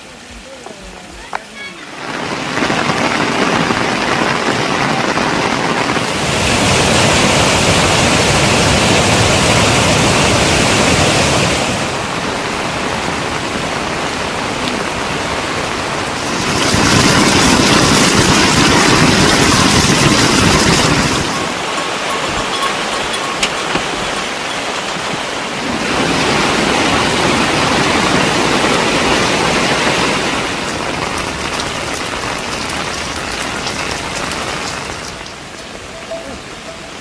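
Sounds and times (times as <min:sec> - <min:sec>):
rushing flowing water: 0:00.0 - 0:37.0.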